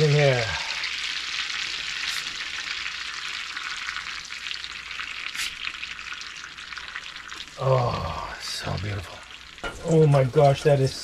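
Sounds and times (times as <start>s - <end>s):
fish cakes sizzling in oil: 0.0s - 11.0s.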